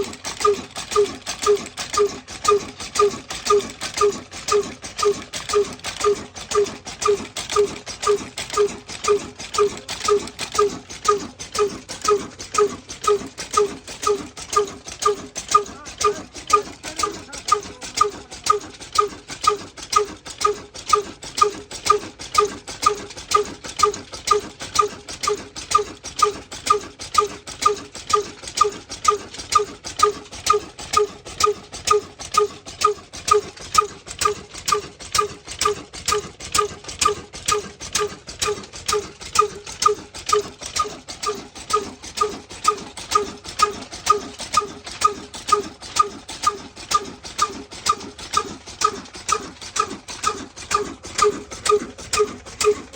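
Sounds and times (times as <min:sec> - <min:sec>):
diesel engine knocking slowly: 0:00.0 - 0:52.9.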